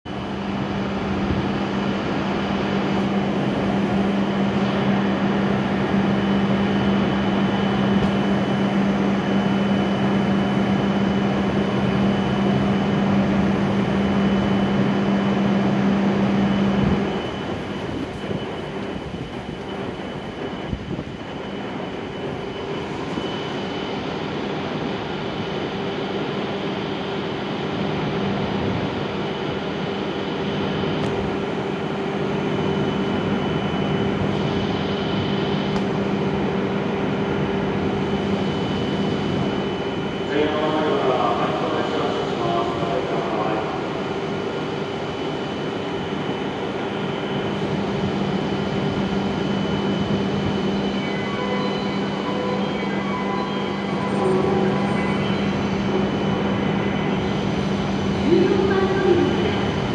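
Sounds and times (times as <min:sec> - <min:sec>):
high steady whine: 0:00.0 - 0:59.9
low drone: 0:00.1 - 0:59.9
train electrical hum: 0:00.1 - 0:59.9.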